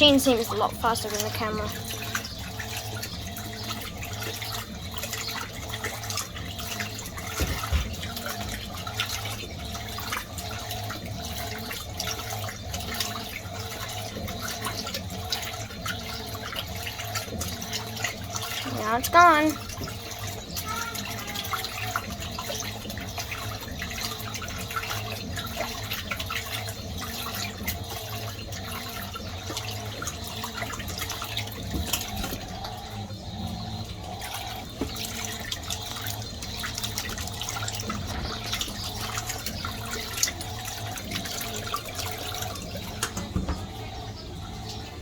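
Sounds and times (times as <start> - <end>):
washing machine hum: 0.0 - 45.0
water splashing in washing machine: 0.0 - 45.0.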